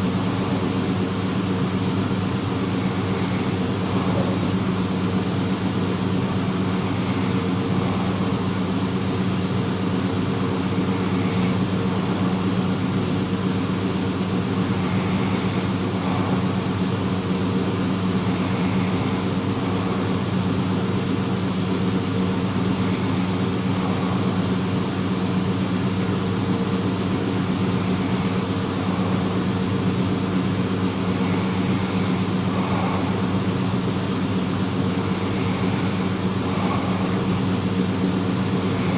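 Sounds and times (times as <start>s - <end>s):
steady mechanical drone: 0.0s - 38.9s.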